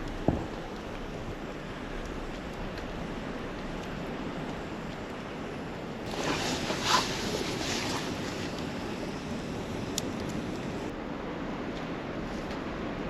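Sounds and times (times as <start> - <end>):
snowstorm wind: 0.0 - 13.0.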